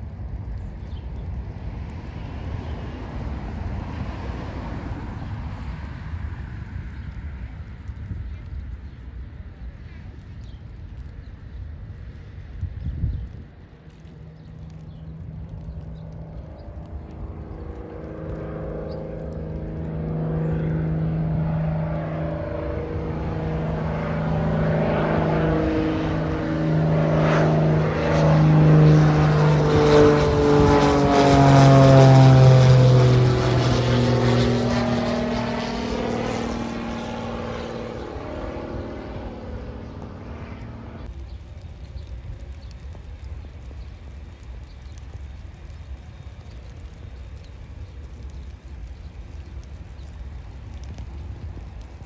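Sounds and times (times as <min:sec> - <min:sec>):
propeller airplane flying overhead: 0:00.0 - 0:52.0.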